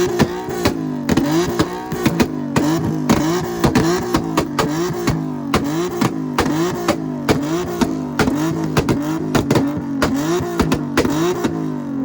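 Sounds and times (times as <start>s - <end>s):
exhaust pops and bangs: 0.0s - 11.9s
car engine stuttering on rev limiter: 0.0s - 12.0s.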